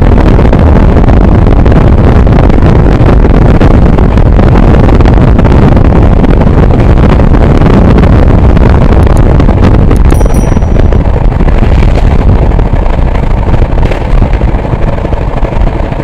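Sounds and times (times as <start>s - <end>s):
train wheels rumbling on rail: 0.0s - 16.0s
wind buffeting microphone: 0.0s - 16.0s.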